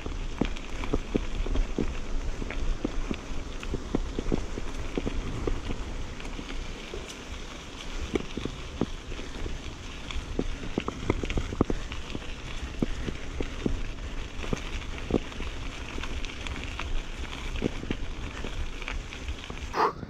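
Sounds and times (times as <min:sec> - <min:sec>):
bike clicks and rattles: 0:00.0 - 0:20.0
bike tyres rolling on dirt: 0:00.0 - 0:20.0.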